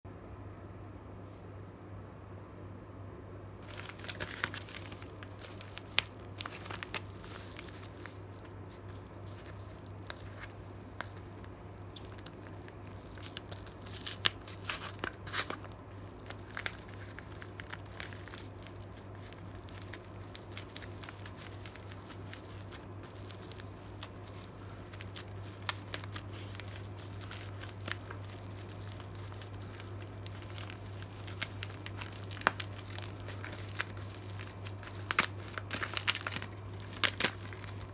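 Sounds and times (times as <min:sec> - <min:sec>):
steady low hum: 0:00.1 - 0:37.9
packaging crinkling and tearing: 0:03.6 - 0:37.9.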